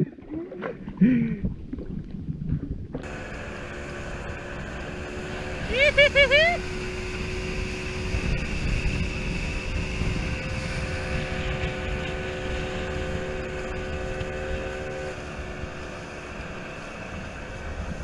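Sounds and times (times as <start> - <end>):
wind buffeting microphone: 1.0 - 18.0
outboard motor running: 2.9 - 18.0.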